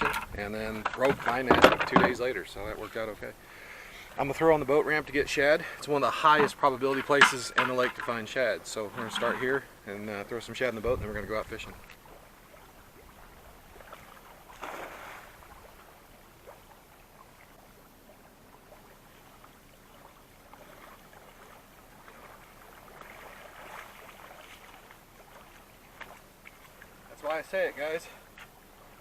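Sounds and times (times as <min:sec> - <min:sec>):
faint water splashing: 0:00.0 - 0:29.0.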